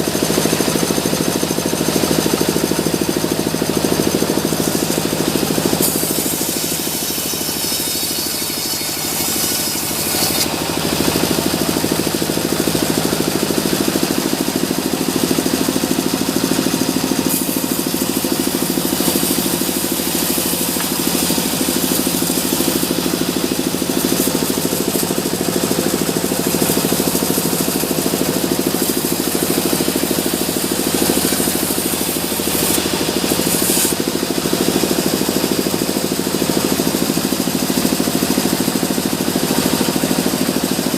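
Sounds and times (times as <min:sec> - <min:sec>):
sawmill machinery pulsing: 0:00.0 - 0:40.9.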